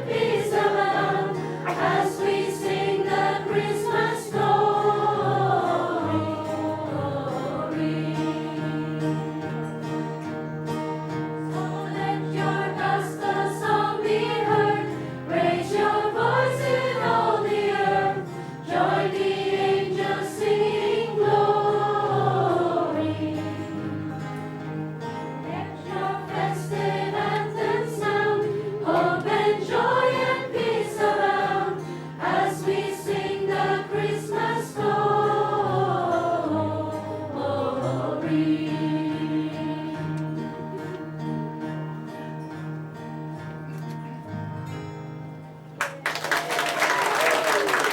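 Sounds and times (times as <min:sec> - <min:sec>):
group singing a worship song: 0:00.0 - 0:10.4, 0:11.2 - 0:41.0
strummed acoustic guitars: 0:00.0 - 0:45.8.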